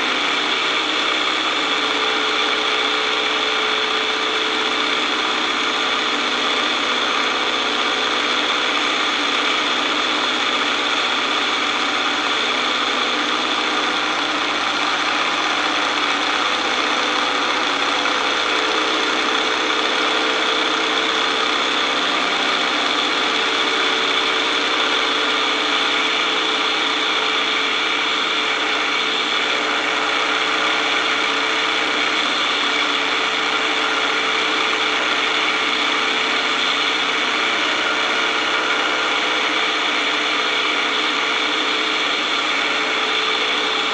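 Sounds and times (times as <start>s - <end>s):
biplane engine running: 0.0s - 43.9s.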